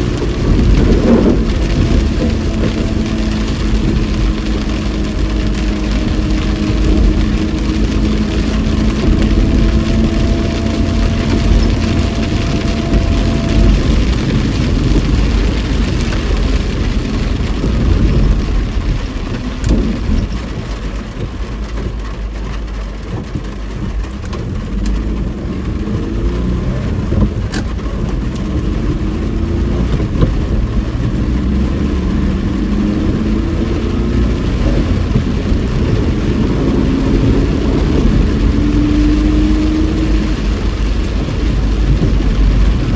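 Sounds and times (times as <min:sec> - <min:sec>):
car engine and tyres on wet road: 0:00.0 - 0:42.9
rain hissing: 0:00.0 - 0:42.9.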